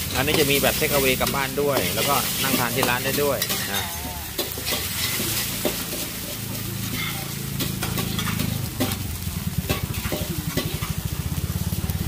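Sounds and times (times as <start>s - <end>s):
metal spatula scraping wok: 0.0s - 11.2s
food sizzling: 0.0s - 12.0s.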